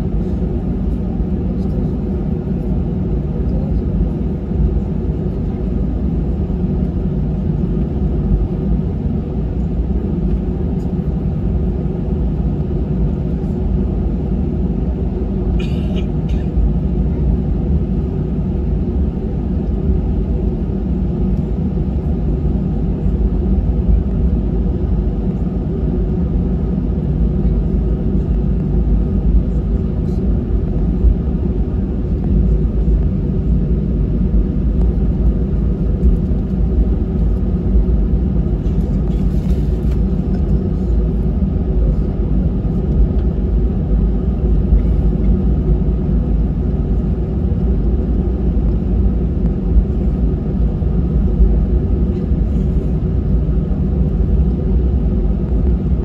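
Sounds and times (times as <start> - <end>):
aircraft engines rumbling: 0.0 - 56.0.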